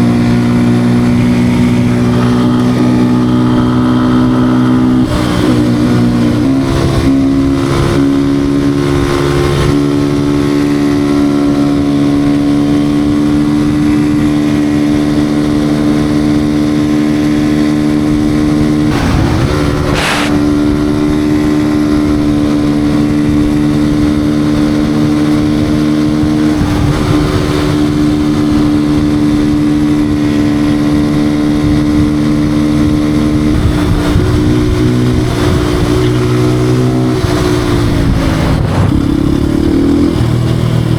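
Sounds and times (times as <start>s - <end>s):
motorcycle engine running loud: 0.0s - 40.9s
wind buffeting microphone: 0.0s - 40.9s.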